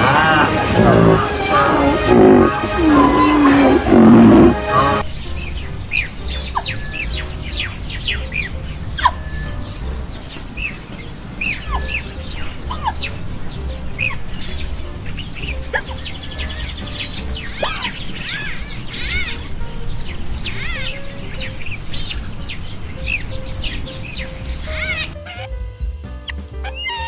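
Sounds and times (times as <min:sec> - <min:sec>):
birds chirping and calling: 0:00.0 - 0:27.0.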